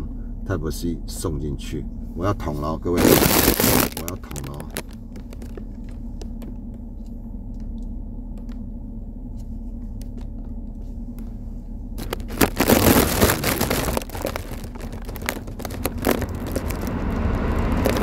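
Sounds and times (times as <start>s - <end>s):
car air conditioning and engine rumble: 0.0s - 18.0s
crackling rustle: 2.9s - 8.6s, 9.3s - 18.0s.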